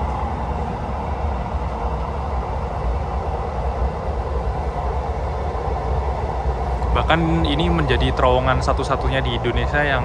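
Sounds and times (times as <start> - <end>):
train rumbling in tunnel: 0.0 - 10.0.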